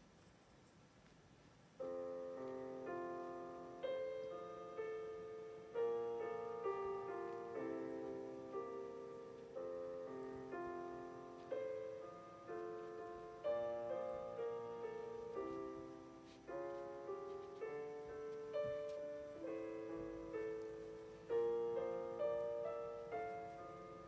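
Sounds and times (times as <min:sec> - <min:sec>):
slow piano chords: 0:01.4 - 0:24.0.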